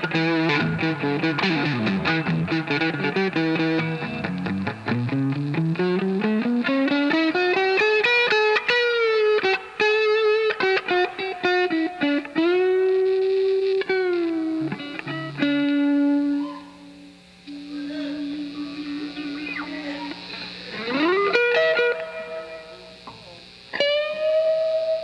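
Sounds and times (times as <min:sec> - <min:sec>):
electric guitar solo: 0:00.0 - 0:25.0.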